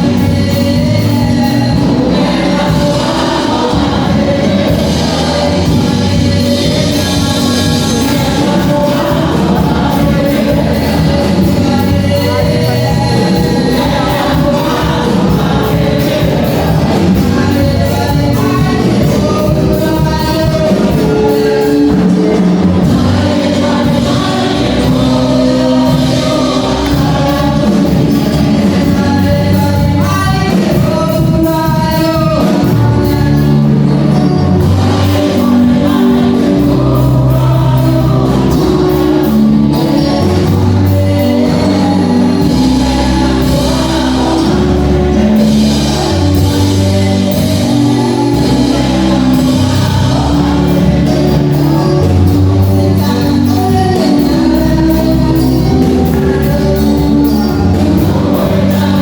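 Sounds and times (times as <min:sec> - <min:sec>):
gospel choir with instruments: 0:00.0 - 0:59.0.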